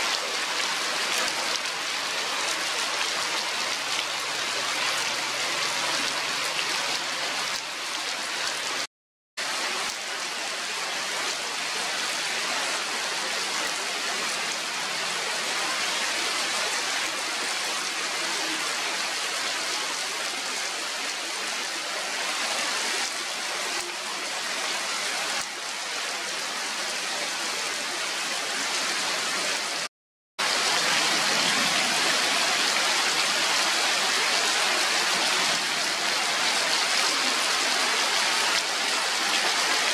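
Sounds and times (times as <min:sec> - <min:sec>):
heavy rain on stone paving: 0:00.0 - 0:39.9.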